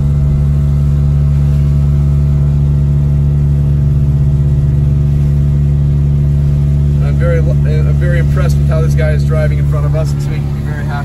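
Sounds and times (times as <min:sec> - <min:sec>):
car engine droning: 0:00.0 - 0:11.0
tyres on wet road: 0:00.0 - 0:11.0.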